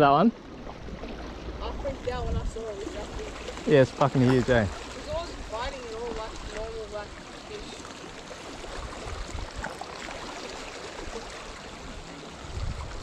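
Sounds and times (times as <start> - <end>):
small waves lapping on rocks: 0.4 - 13.0.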